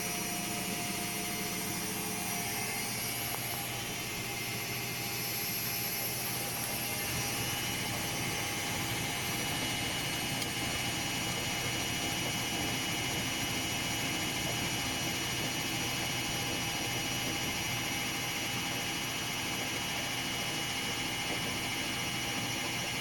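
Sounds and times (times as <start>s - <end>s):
washing machine whirring: 0.0s - 23.0s.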